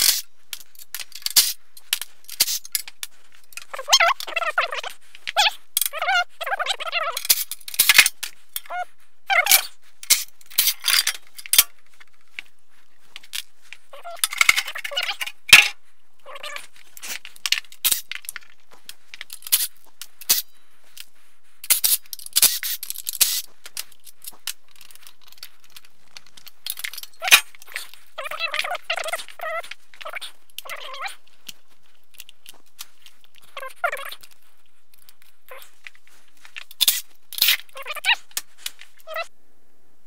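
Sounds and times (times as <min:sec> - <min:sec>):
metal and plastic parts clanking: 0:00.0 - 0:34.4, 0:35.0 - 0:39.2.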